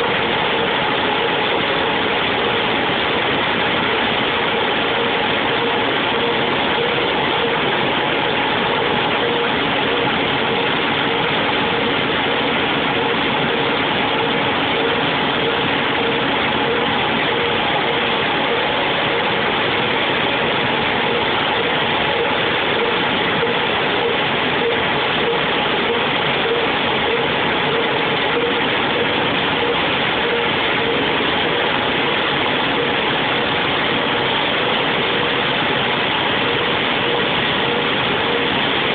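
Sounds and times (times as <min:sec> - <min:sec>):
machine mechanical drone: 0:00.0 - 0:38.9
faint pulsing tone: 0:03.9 - 0:38.9.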